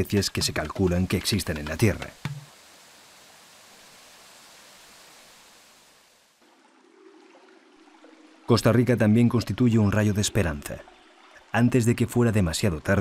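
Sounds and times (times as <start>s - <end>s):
outdoor ambience hiss: 0.0s - 13.0s.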